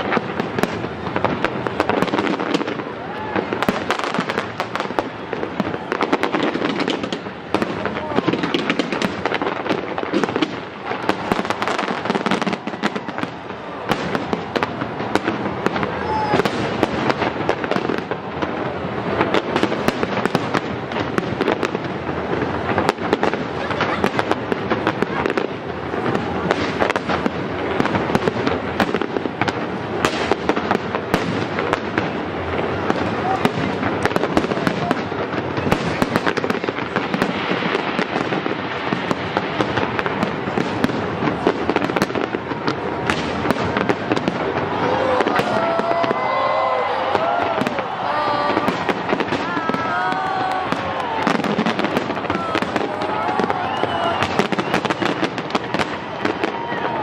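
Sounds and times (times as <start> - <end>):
fireworks bangs and crackles: 0.0 - 57.0
people's voices: 0.0 - 57.0.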